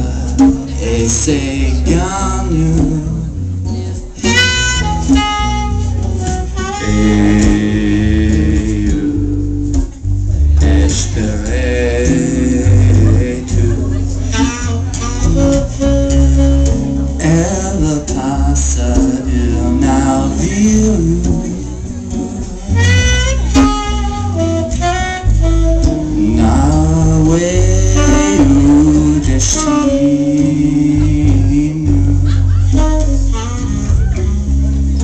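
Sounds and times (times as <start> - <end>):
man singing: 0.0 - 5.3, 6.5 - 24.4, 25.8 - 35.0
drums: 0.0 - 35.0
strummed acoustic guitar: 0.0 - 35.0
saxophone: 2.4 - 35.0.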